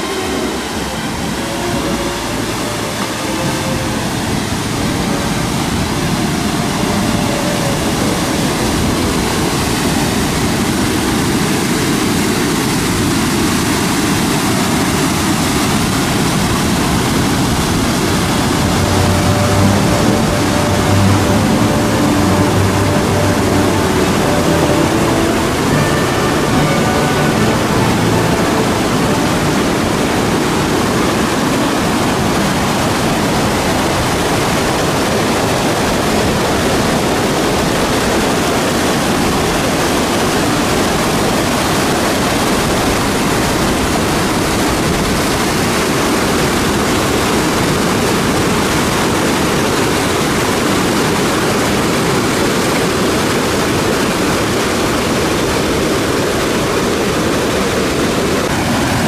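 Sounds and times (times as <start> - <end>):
river rapids rushing: 0.0 - 59.0.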